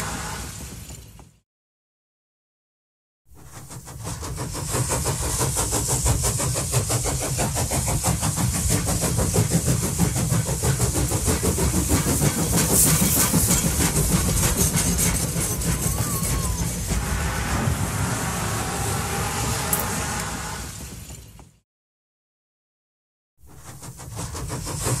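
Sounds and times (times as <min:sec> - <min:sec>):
train running on track: 0:00.0 - 0:01.4, 0:03.3 - 0:21.6, 0:23.4 - 0:25.0.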